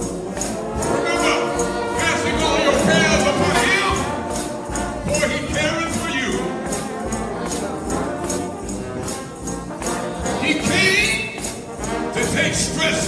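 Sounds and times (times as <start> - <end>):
brass band playing: 0.0 - 13.0
percussion beat: 0.0 - 13.0.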